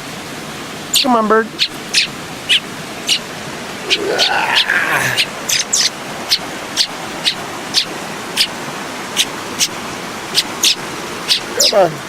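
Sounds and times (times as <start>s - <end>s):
creek water rushing: 0.0s - 12.0s
bird chirping: 0.9s - 12.0s.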